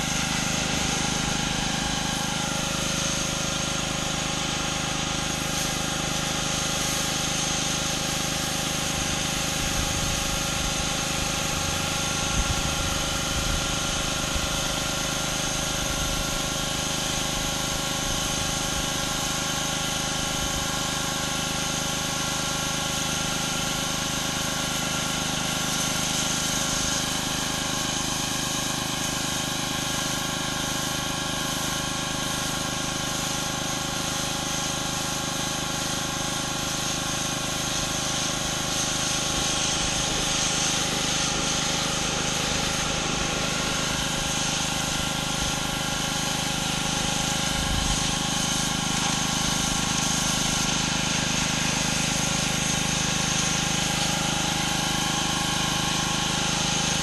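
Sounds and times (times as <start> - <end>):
high-pressure water spray hissing: 0.0 - 57.0
pressure washer engine drone: 0.0 - 57.0.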